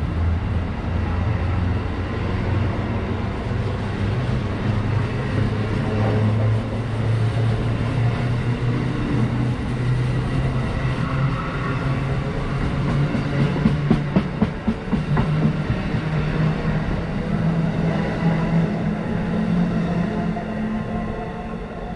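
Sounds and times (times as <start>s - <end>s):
train running close by: 0.0s - 21.9s.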